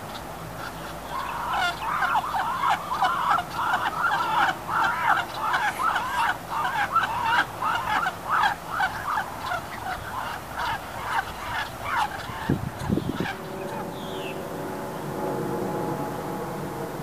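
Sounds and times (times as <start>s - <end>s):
bird honking calls: 0.1s - 16.8s.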